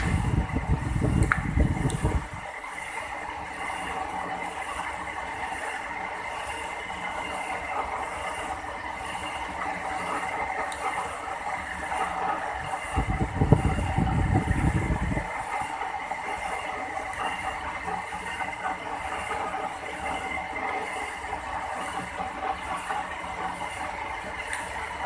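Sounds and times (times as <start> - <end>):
metal lathe drilling whir: 0.0 - 25.0.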